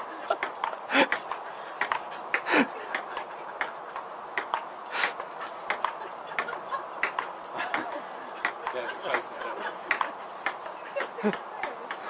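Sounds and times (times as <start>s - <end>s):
table tennis ball bouncing: 0.4s - 12.0s.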